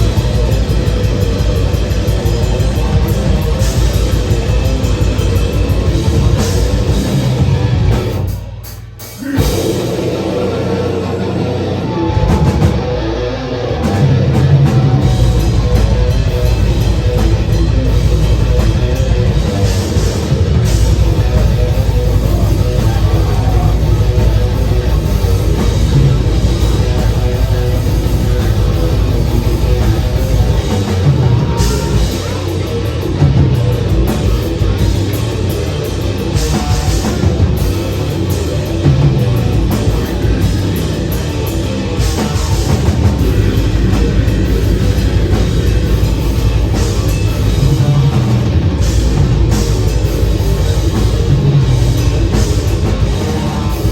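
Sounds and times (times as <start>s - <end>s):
metal band playing live: 0.0s - 53.9s.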